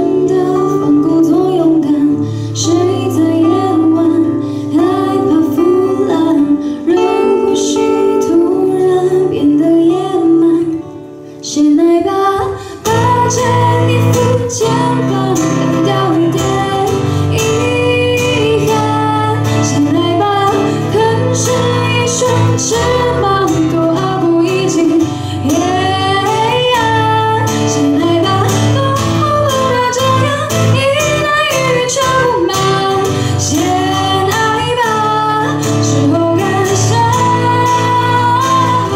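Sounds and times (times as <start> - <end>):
acoustic guitar: 0.0 - 38.9
woman singing into microphone: 0.0 - 38.9.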